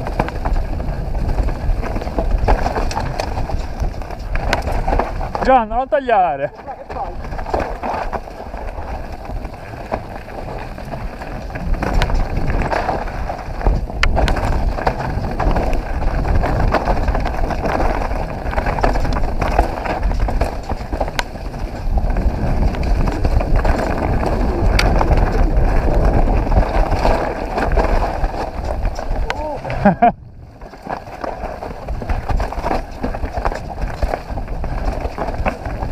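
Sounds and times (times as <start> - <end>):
bike clicks and knocks: 0.0 - 5.6, 6.5 - 35.9
bike tyres rolling on dirt: 0.0 - 35.9
wind buffeting microphone: 0.0 - 35.9.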